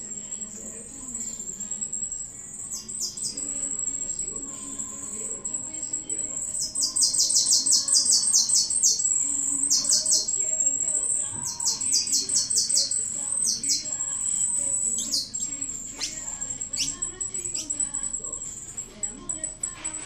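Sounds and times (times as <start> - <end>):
thin steady high tone: 0.0 - 20.0
small animal chirping: 1.1 - 19.5.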